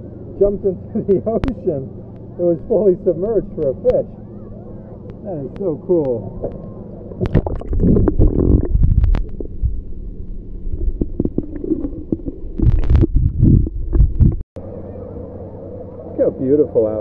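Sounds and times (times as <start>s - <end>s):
muffled water sloshing: 0.0s - 16.1s.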